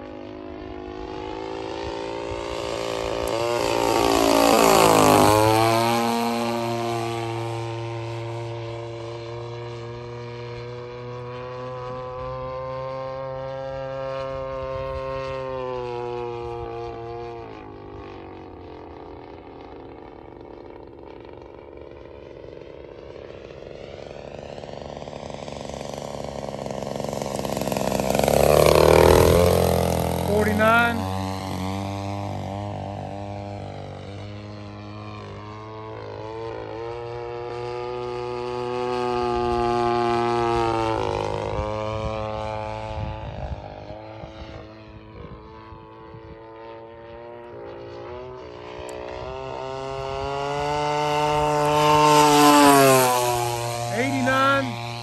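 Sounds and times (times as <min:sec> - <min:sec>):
model plane engine flying by: 0:00.0 - 0:55.0.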